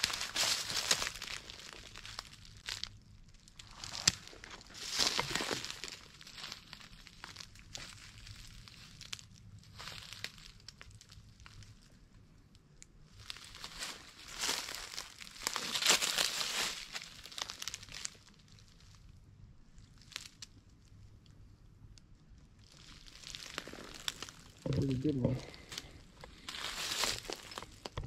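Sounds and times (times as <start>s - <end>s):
dry vegetation rustling: 0.0s - 12.3s, 13.0s - 19.1s, 19.8s - 21.2s, 22.5s - 28.0s.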